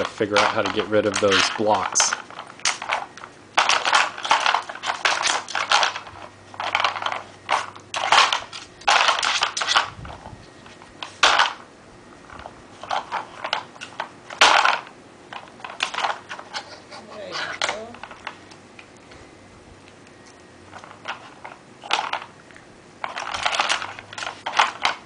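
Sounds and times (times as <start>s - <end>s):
puzzle pieces scraping and clattering: 0.0s - 11.7s, 12.3s - 18.3s, 20.7s - 22.3s, 23.0s - 25.0s.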